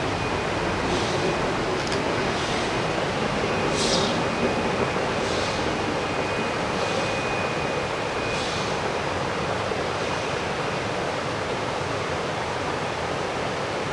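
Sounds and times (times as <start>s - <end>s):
river rushing over rapids: 0.0s - 13.9s.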